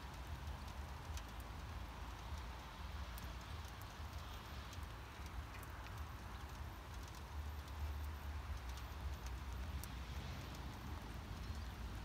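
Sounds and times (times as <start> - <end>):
faint ticks: 0.0 - 12.0
soft outdoor hiss: 0.0 - 12.0.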